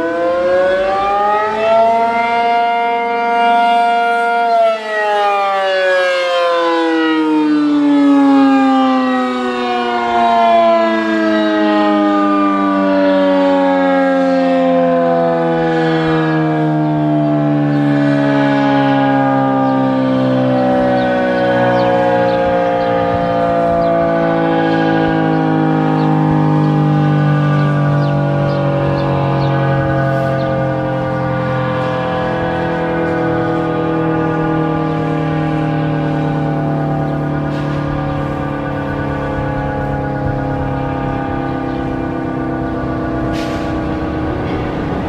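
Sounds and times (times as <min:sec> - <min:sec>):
civil defense siren: 0:00.0 - 0:45.0.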